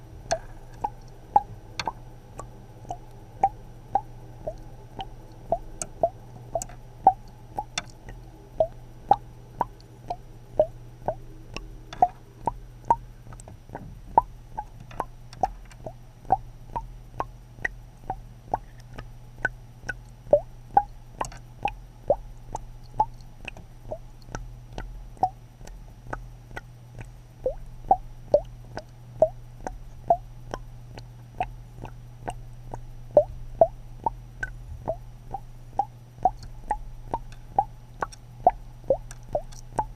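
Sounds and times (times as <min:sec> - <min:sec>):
low steady hum: 0:00.0 - 0:39.9
water dripping: 0:00.2 - 0:39.9.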